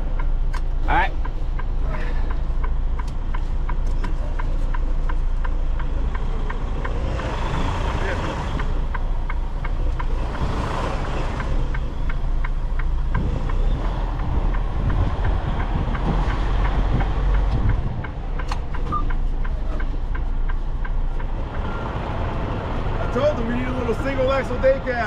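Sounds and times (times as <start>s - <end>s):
quick ticking: 0.0s - 21.8s
truck diesel engine running: 0.0s - 25.0s.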